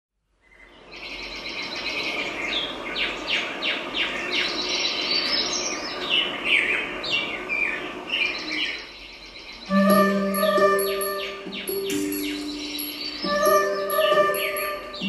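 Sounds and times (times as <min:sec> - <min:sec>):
birds chirping and calling: 0:00.5 - 0:15.0.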